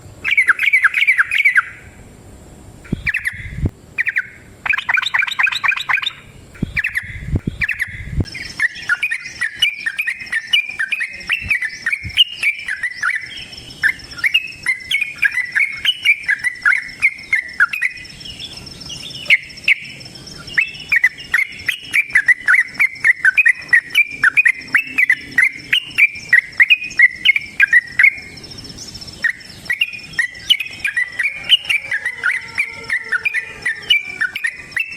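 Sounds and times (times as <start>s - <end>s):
bulbul singing: 0.0s - 34.9s.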